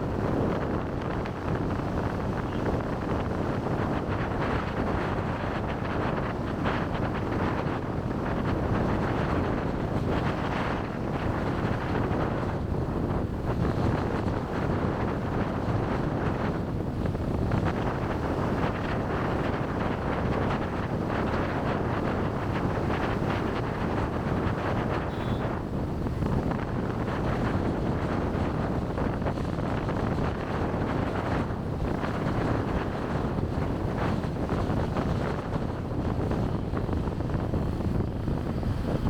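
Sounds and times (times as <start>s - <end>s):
road and traffic noise: 0.0s - 39.0s
wind buffeting microphone: 0.0s - 39.0s.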